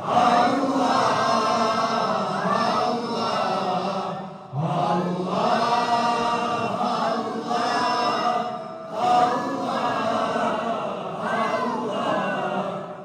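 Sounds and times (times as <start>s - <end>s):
chorus chanting a hymn: 0.0s - 13.0s.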